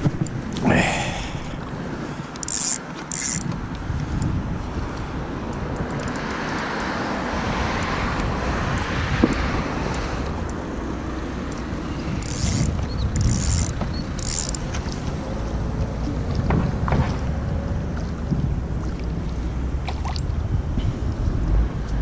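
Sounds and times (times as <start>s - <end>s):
wind rumble on microphone: 0.0s - 2.5s, 3.1s - 22.0s.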